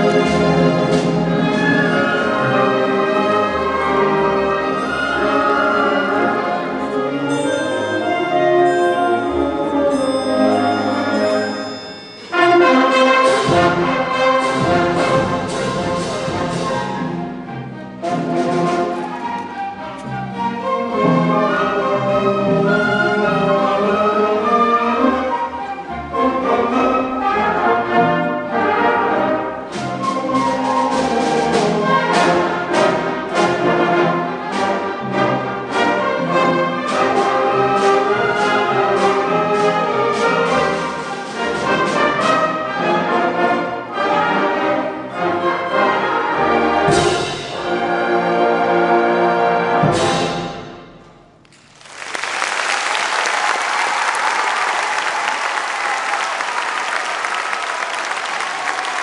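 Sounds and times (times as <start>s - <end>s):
brass instruments: 0.0s - 59.0s
orchestra playing: 0.0s - 59.0s.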